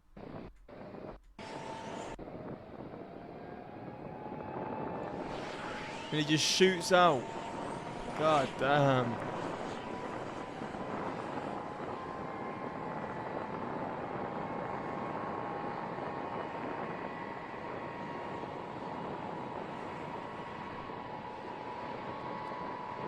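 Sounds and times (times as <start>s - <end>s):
jet engines with turbine whine: 0.2s - 23.0s.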